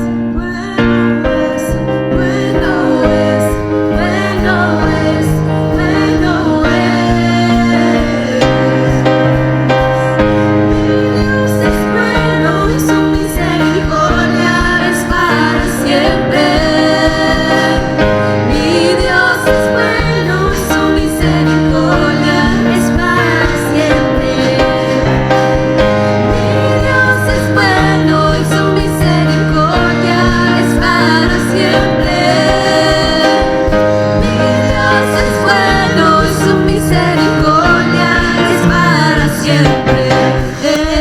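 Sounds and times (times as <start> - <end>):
woman singing: 0.0 - 9.4, 10.6 - 25.3, 26.2 - 41.0
sustained instrumental chords: 0.0 - 41.0.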